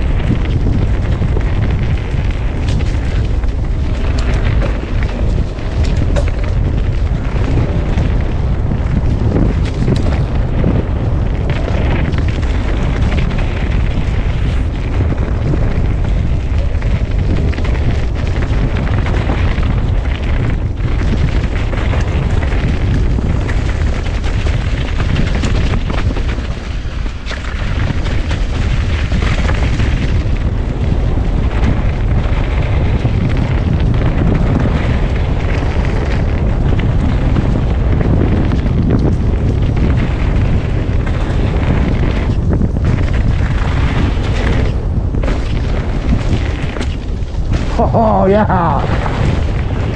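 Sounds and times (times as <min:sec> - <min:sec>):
bike rattling over bumps: 0:00.0 - 0:49.9
bike tyres on dirt: 0:00.0 - 0:49.9
wind buffeting microphone: 0:00.0 - 0:49.9.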